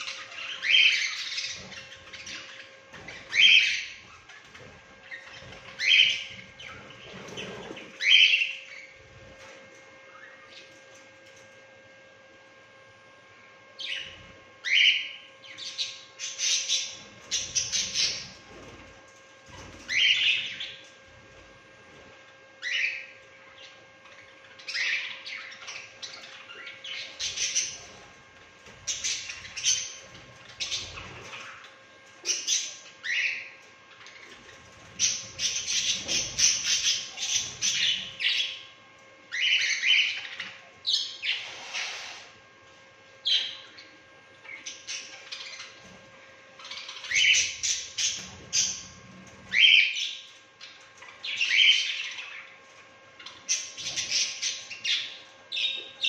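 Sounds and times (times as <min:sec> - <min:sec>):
budgerigars chirping and chattering: 0:00.0 - 0:09.5, 0:13.8 - 0:18.9, 0:19.5 - 0:20.9, 0:22.6 - 0:38.7, 0:39.3 - 0:42.3, 0:43.2 - 0:46.0, 0:46.6 - 0:52.6, 0:53.2 - 0:56.0.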